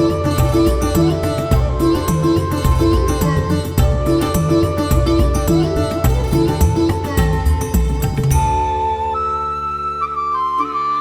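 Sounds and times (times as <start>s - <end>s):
plucked string melody: 0.0s - 9.6s.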